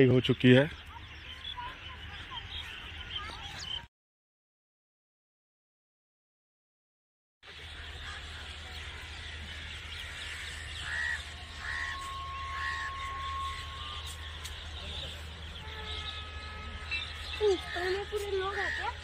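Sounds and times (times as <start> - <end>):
birds chirping and calling: 0.0 - 3.9, 7.4 - 19.0.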